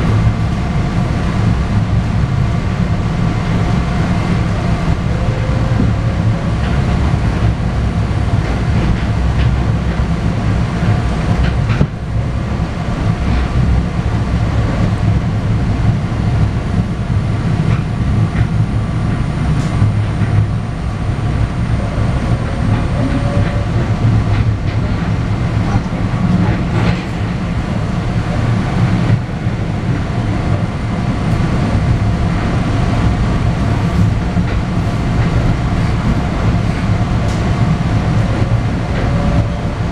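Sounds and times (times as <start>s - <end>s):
wheels rumbling on rail: 0.0s - 39.9s.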